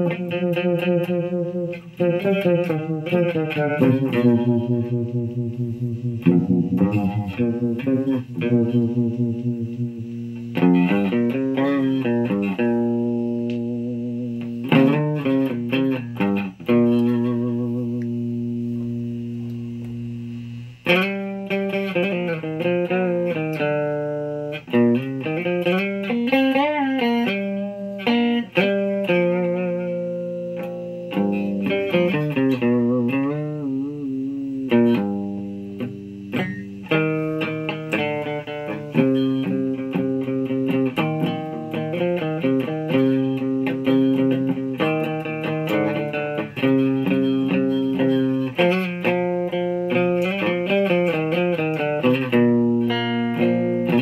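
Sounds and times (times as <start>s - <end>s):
fuzz electric guitar notes: 0.0s - 54.0s.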